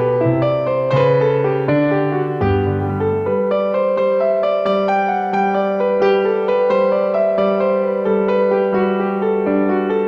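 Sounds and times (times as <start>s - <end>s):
christmas piano music: 0.0s - 10.0s.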